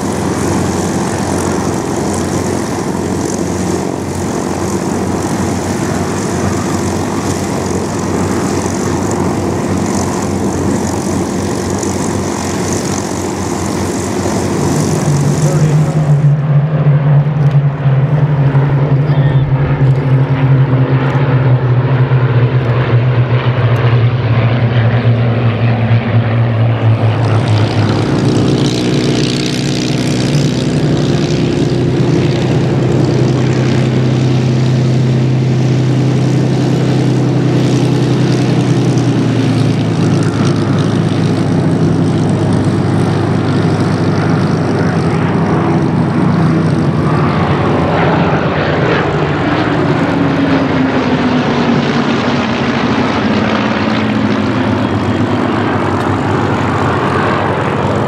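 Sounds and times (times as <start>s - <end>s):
propeller aircraft drone: 0.0s - 58.0s.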